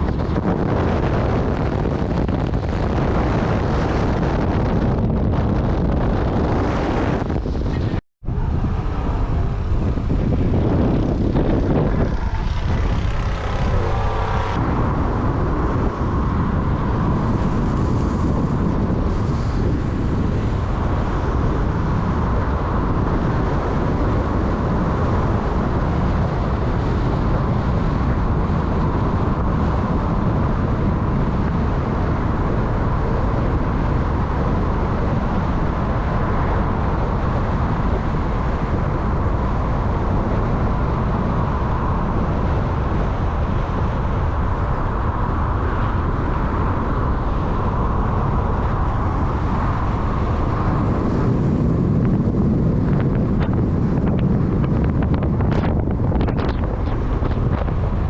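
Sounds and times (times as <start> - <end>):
moving vehicle rumble: 0.0 - 58.0.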